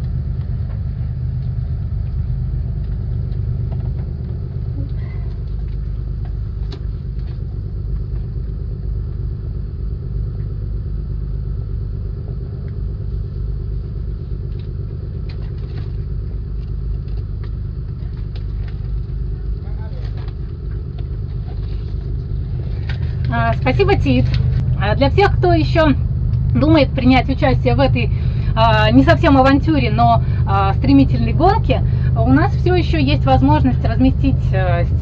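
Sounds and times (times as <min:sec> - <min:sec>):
low engine-like rumble: 0:00.0 - 0:35.0.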